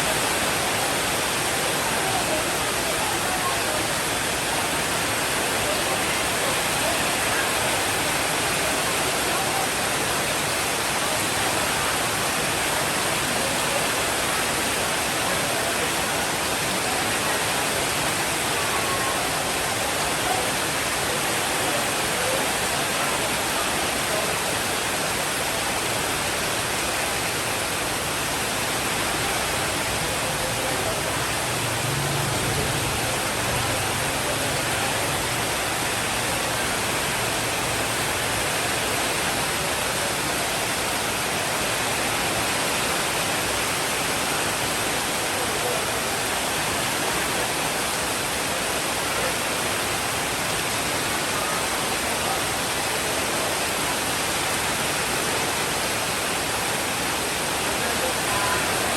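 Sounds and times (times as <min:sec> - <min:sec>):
steady rainfall hiss: 0:00.0 - 0:58.9.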